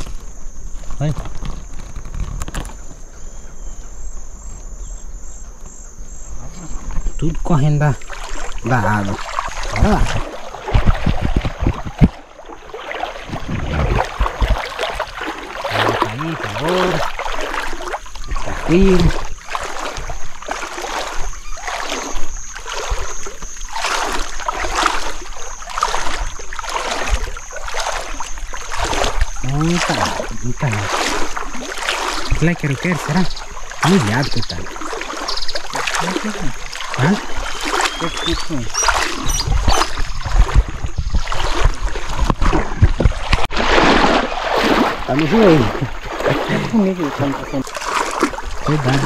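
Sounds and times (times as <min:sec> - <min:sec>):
person wading through water: 0:00.0 - 0:49.0.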